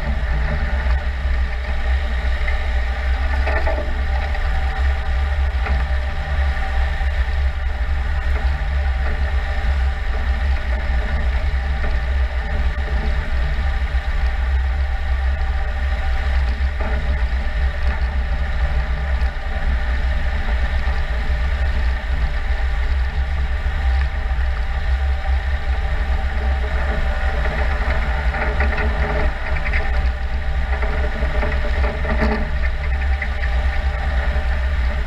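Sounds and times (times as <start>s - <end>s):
engine low drone: 0.0s - 35.0s.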